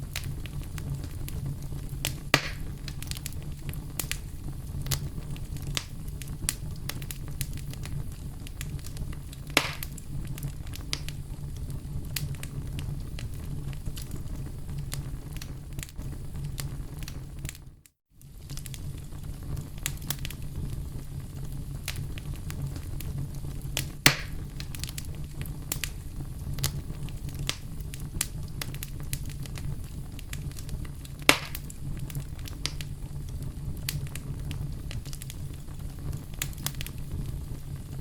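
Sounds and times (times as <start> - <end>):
campfire crackling: 0.0 - 38.0
sharp pops and snaps of fire: 0.0 - 38.0.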